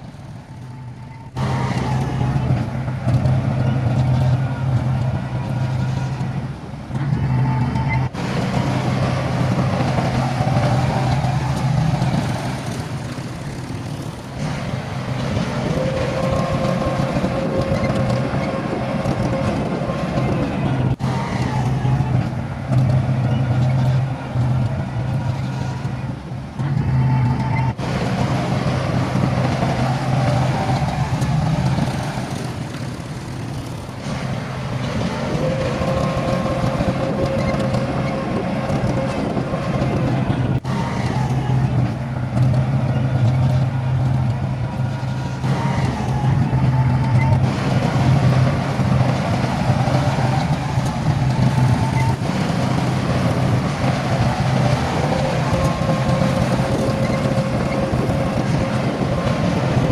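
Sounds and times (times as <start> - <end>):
heavy diesel engines running: 0.0 - 59.9.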